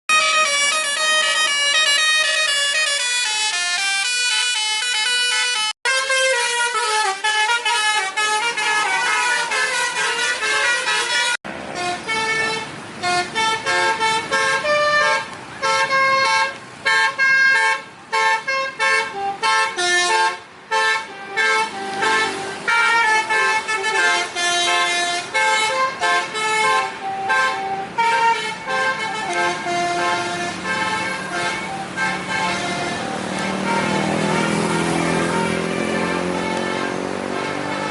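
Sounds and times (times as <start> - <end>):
multi-tone air horn tune: 0.1 - 37.9.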